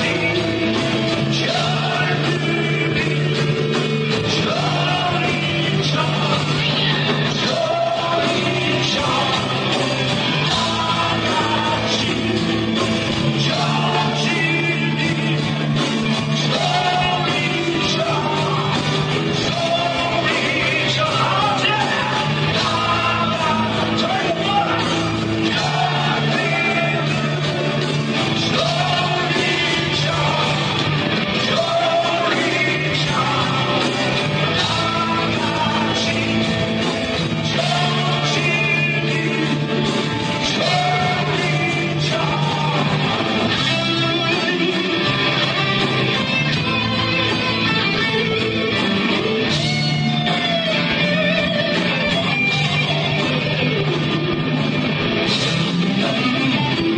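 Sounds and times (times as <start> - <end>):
person singing and yelling: 0.0 - 48.4
heavy metal band playing: 0.0 - 56.9.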